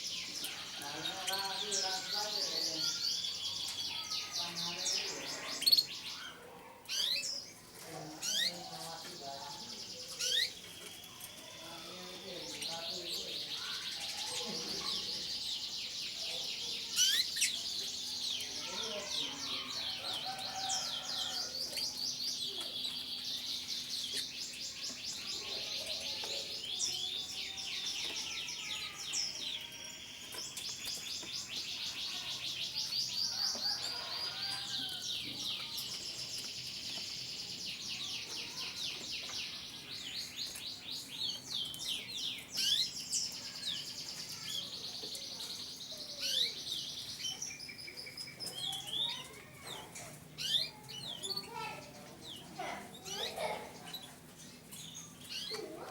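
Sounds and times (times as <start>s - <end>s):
canaries singing in chorus: 0.0s - 55.9s.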